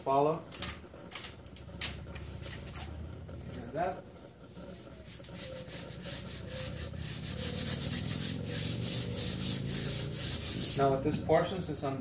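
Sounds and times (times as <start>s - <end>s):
hand rubbing sticker on glass: 0.4s - 11.6s.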